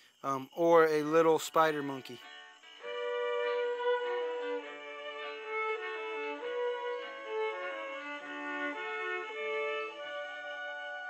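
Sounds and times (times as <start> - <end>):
violin playing slow held notes: 1.7 - 11.0.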